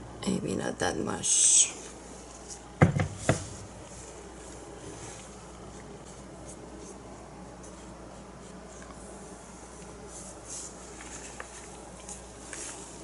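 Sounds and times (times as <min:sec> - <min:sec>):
low steady hum: 0:00.0 - 0:13.0
handling scratching and rustling: 0:01.8 - 0:13.0.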